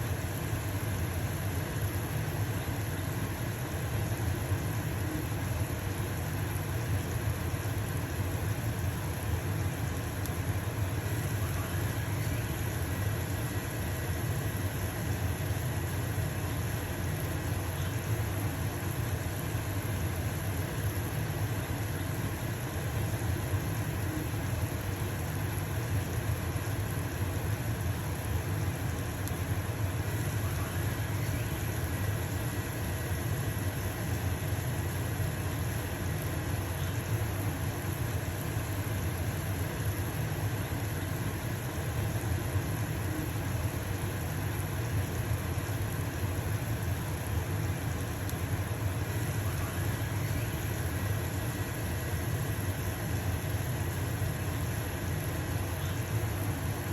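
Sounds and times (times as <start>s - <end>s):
pancake sizzling in a frying pan: 0.0s - 56.8s
range hood fan humming: 0.0s - 56.9s.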